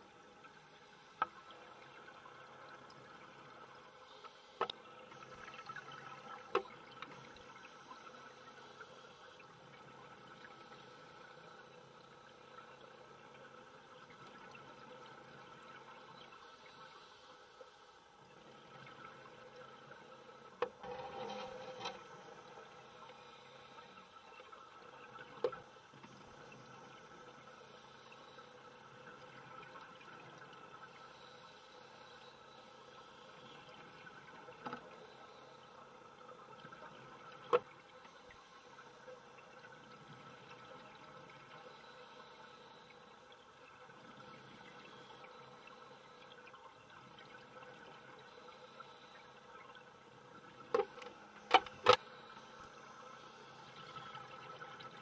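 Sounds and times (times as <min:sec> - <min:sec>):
faint underwater hum: 0:00.0 - 0:55.0
thin steady tones: 0:00.0 - 0:55.0.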